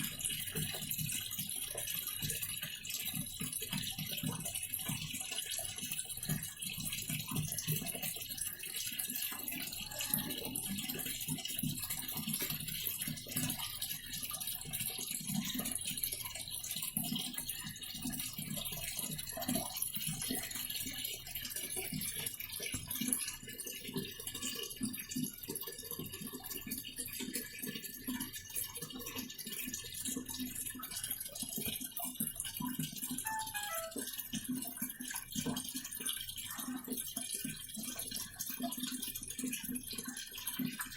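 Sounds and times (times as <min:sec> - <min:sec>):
washing machine sloshing and rattling: 0:00.0 - 0:33.0, 0:35.3 - 0:40.9.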